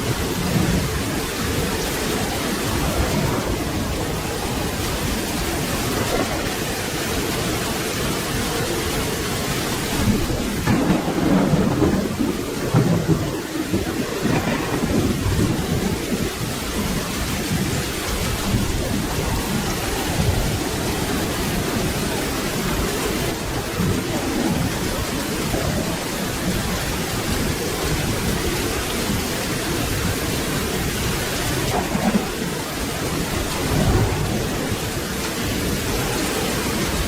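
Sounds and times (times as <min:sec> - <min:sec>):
low rolling thunder: 0:00.0 - 0:37.0
steady rain: 0:00.0 - 0:37.0.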